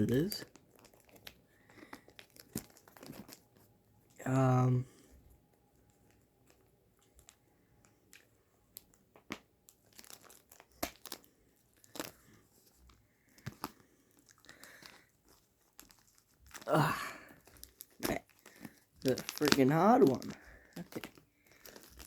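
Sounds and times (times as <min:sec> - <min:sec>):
packaging crinkling and tearing: 0:00.0 - 0:03.7, 0:06.0 - 0:22.0.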